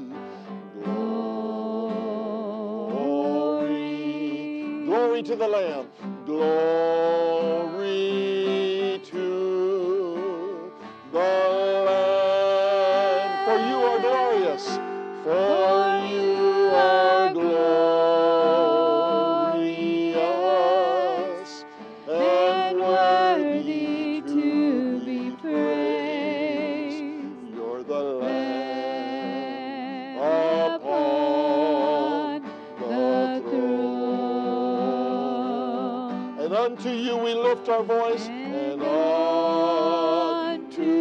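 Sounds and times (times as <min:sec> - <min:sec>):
acoustic guitar: 0:00.0 - 0:41.0
man singing: 0:00.0 - 0:41.0.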